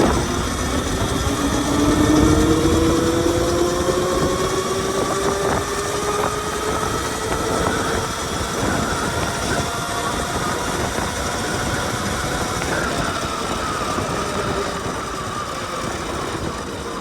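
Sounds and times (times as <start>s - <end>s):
electric motor whine: 0.0s - 17.0s
steady rushing noise: 0.0s - 17.0s.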